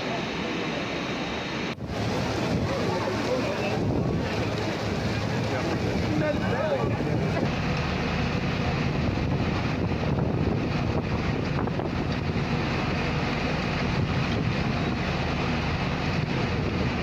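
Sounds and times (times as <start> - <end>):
heavy rain roaring: 0.0 - 17.0
wind buffeting microphone: 1.7 - 17.0.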